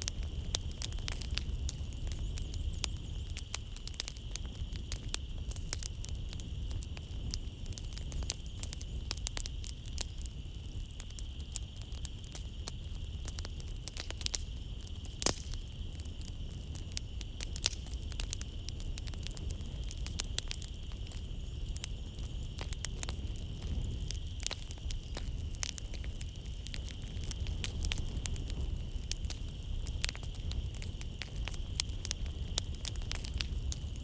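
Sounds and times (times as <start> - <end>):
night insects chirring: 0.0 - 34.0
wood fire crackling: 0.0 - 34.0.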